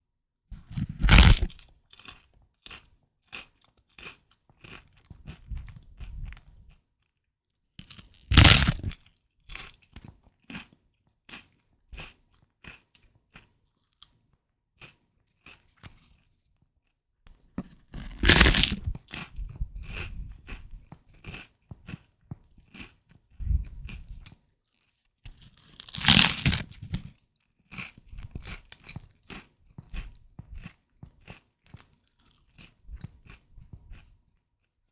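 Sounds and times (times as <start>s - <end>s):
puffed rice crunching and chewing: 0.8s - 6.8s, 7.8s - 16.4s, 17.9s - 34.8s.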